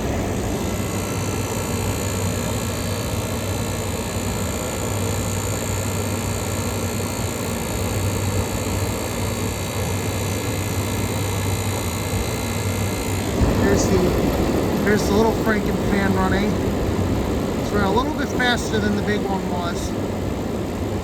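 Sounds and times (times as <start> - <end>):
compressor humming: 0.0 - 21.0
fan blowing air: 0.0 - 21.0.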